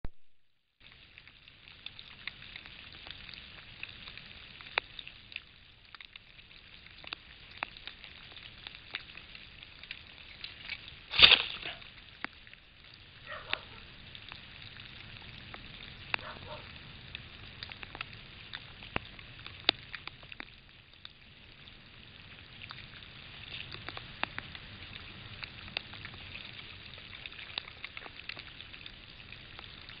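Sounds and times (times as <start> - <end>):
crackling clicks: 0.0 - 30.0.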